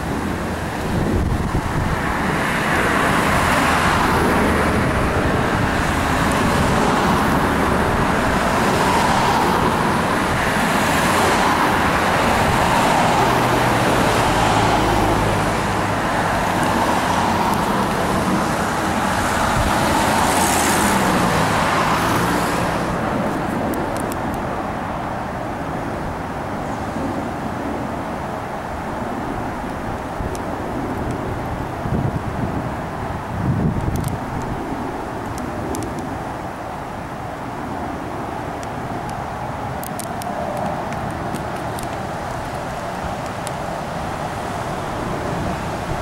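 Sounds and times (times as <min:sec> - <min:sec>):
jet engine roar: 0:00.0 - 0:46.0.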